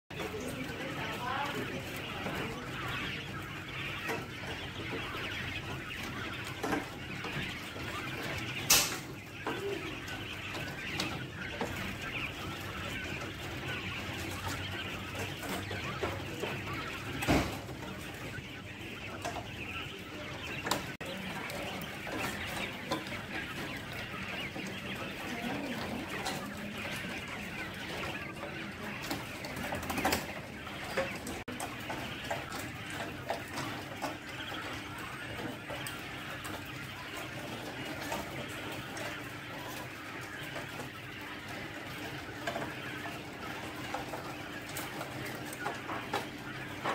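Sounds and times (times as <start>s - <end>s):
quail calling and chirping: 0.1s - 46.9s.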